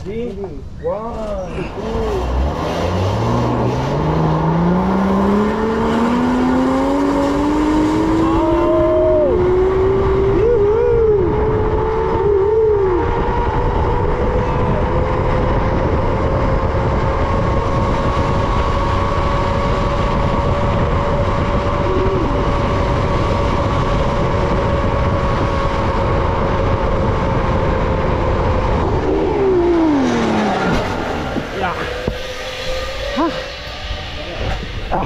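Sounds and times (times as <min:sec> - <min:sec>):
wind on microphone: 0:01.7 - 0:35.0.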